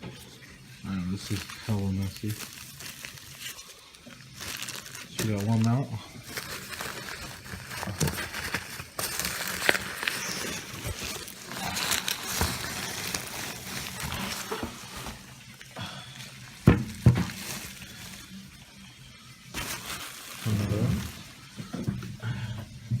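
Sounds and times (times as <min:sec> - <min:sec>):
packaging rustling: 0:00.4 - 0:22.1.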